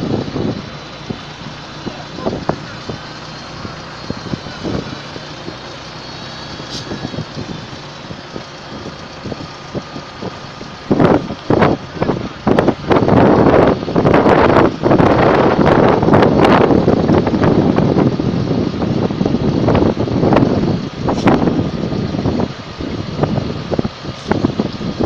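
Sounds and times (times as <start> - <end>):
heavy diesel engines running: 0.0 - 25.0
wind buffeting microphone: 0.0 - 25.0.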